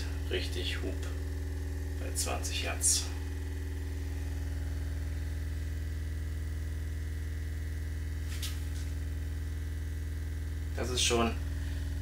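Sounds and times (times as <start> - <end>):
subwoofer low test tone drone: 0.0 - 12.0.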